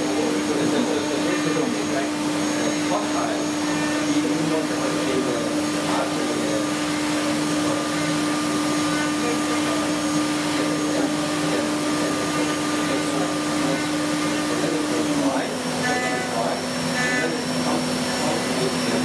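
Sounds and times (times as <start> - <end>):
milling machine whirring: 0.0 - 19.0.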